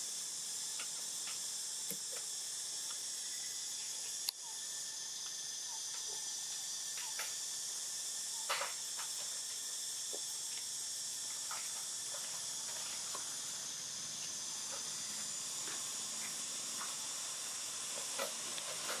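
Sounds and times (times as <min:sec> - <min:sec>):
insect chorus hissing: 0:00.0 - 0:19.0.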